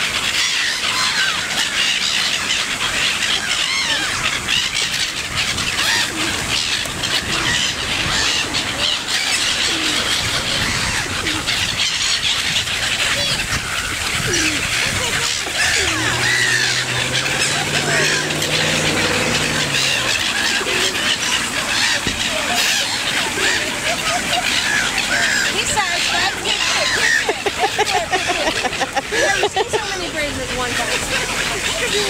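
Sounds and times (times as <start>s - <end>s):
flock of birds calling: 0.0s - 32.0s.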